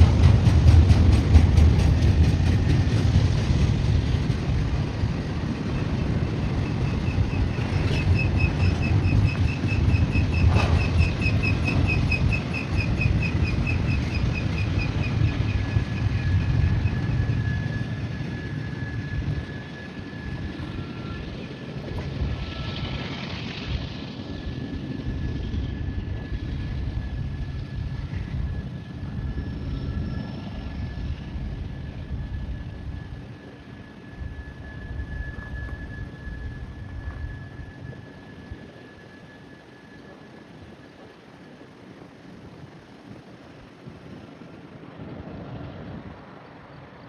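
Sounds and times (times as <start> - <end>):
train wheel rumble: 0.0 - 47.0.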